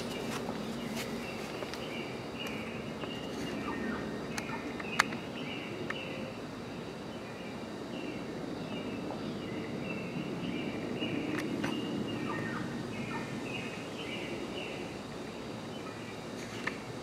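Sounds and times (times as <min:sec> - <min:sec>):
faint bird-like chirps: 0:00.0 - 0:15.0
steady background noise: 0:00.0 - 0:17.0.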